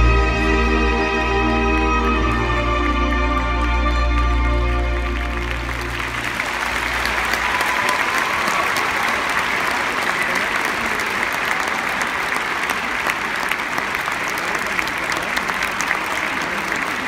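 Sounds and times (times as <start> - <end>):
crowd applauding: 1.8 - 17.0.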